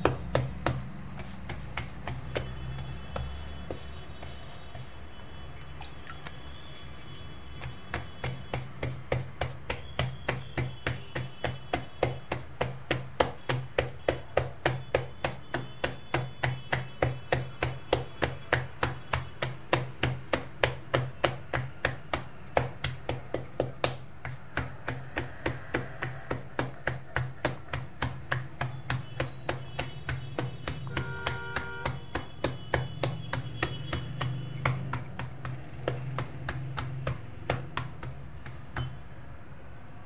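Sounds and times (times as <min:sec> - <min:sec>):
hands slapping dough: 0:00.0 - 0:05.1, 0:05.8 - 0:39.0.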